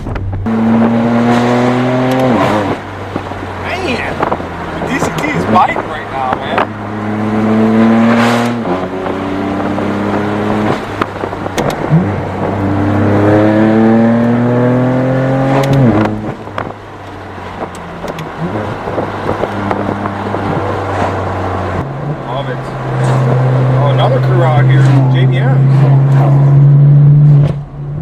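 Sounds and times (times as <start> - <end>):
car exhaust revving: 0.0 - 28.0
exhaust cracks: 0.0 - 28.0.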